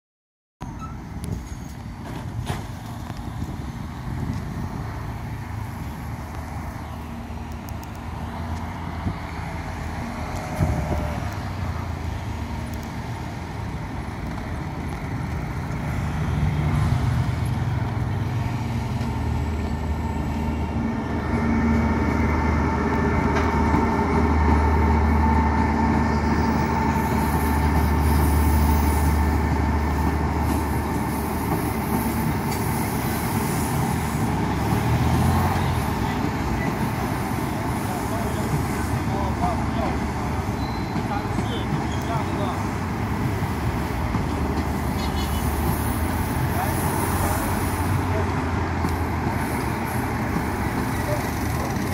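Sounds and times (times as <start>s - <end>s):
locomotive whine: 0.6s - 51.9s
train rumbling past: 0.6s - 51.9s.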